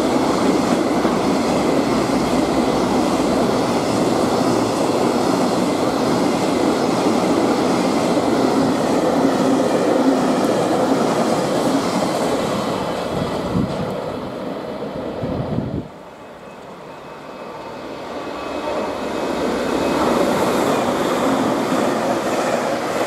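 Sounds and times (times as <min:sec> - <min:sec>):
freight train rumbling on rails: 0:00.0 - 0:23.0.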